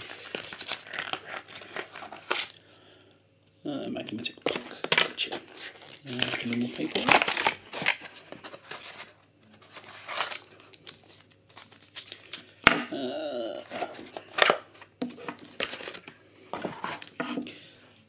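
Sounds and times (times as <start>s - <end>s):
paper packaging rustling: 0.0s - 2.6s, 4.4s - 12.7s, 13.6s - 17.5s.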